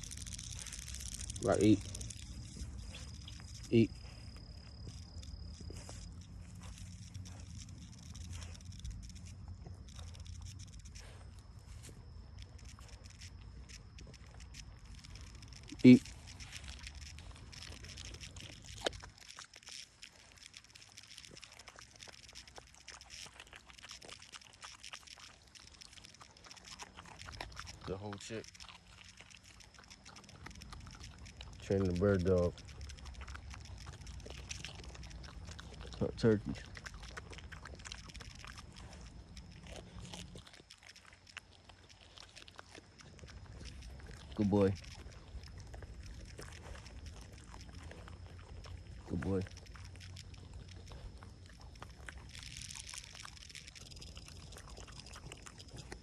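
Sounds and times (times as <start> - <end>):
dog chewing with crunching: 0.0 - 56.0.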